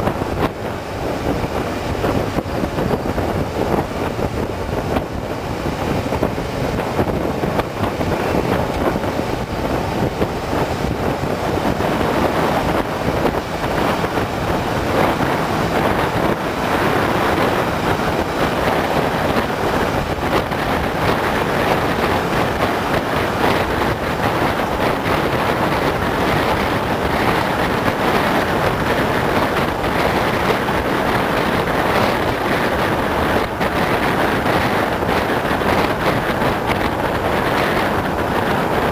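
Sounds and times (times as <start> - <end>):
vehicle road noise: 0.0 - 38.9
wind rushing over microphone: 0.0 - 38.9.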